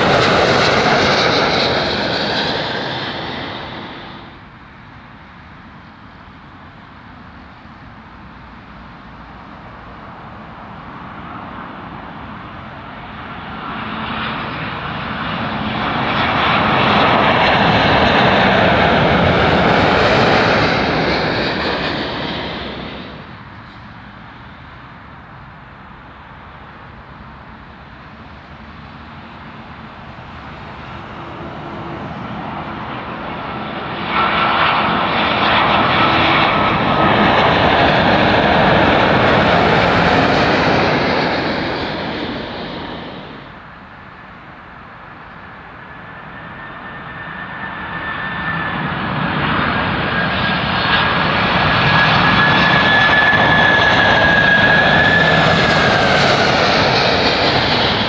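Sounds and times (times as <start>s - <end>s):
airliner passing low overhead: 0.0s - 58.0s
jet airliner approaching with high whine: 0.0s - 58.0s.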